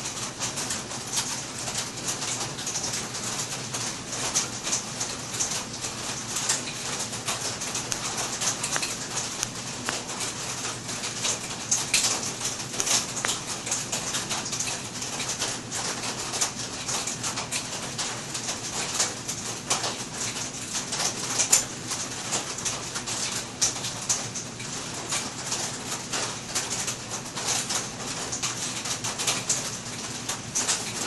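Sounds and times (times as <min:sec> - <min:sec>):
rain pattering on a roof: 0:00.0 - 0:31.0.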